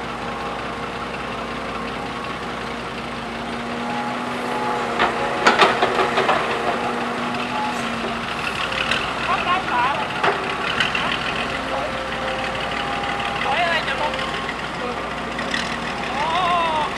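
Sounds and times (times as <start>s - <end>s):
heavy diesel machinery running: 0.0s - 16.9s.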